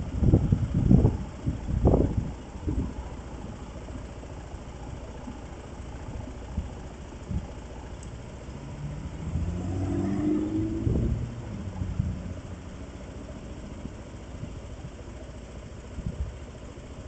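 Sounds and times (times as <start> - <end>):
low road rumble: 0.0 - 17.0
vehicle engine running: 0.0 - 17.0.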